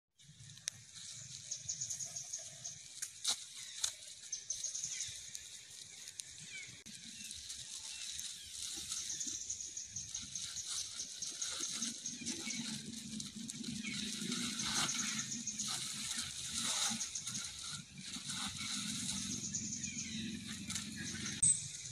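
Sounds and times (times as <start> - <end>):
dry leaves rustling and crackling: 0.2 - 21.9.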